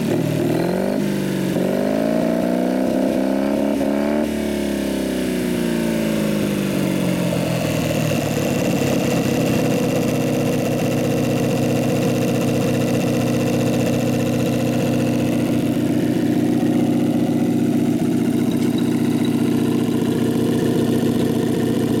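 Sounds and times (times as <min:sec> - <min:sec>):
small engine running steadily: 0:00.0 - 0:22.0.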